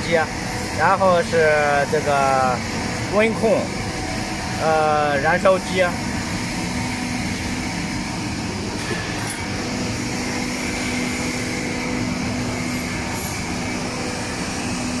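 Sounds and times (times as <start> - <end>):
frying machine running: 0.0 - 15.0.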